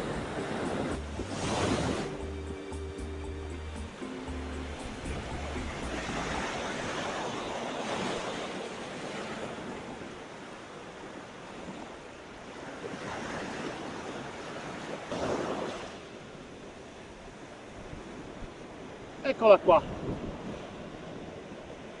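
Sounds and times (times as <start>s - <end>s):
waves breaking on beach: 0.0s - 22.0s
wind on microphone: 0.0s - 22.0s.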